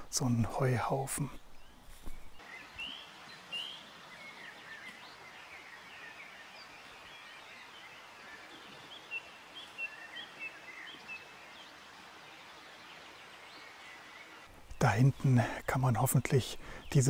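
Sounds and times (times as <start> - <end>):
faint outdoor hiss: 0.0 - 17.0
small birds chirping: 0.0 - 17.0.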